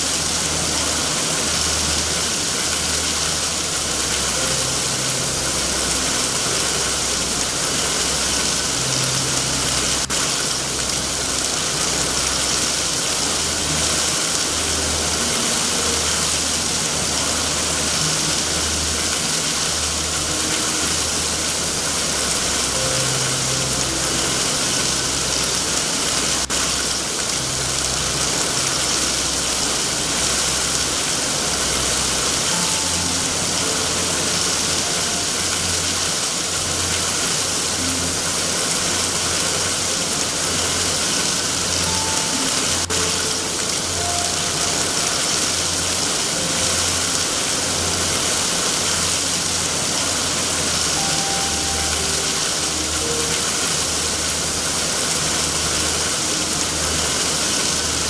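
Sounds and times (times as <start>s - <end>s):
low uneven rumble: 0.0s - 58.0s
steady rain hissing: 0.0s - 58.0s.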